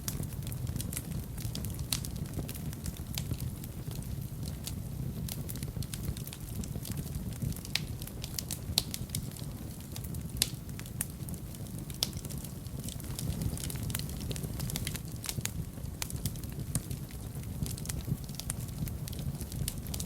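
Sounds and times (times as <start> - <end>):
fireplace fire crackling: 0.0 - 20.0
low rumble of flames: 0.0 - 20.0
sharp pops of fire: 0.0 - 20.0.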